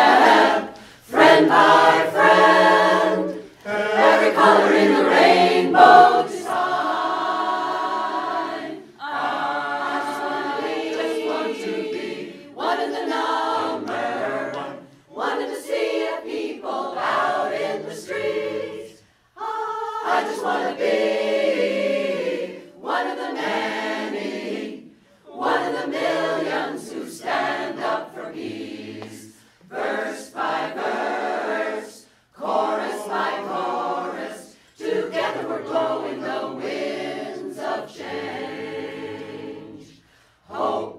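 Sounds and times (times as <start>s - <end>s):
choir singing unaccompanied: 0.0s - 40.9s.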